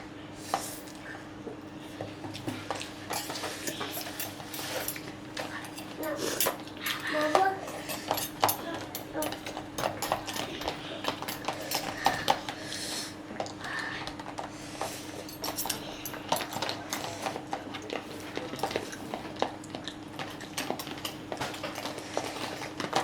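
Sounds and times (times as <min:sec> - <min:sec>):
cutlery clinking against plates: 0:01.9 - 0:12.8, 0:13.4 - 0:23.0.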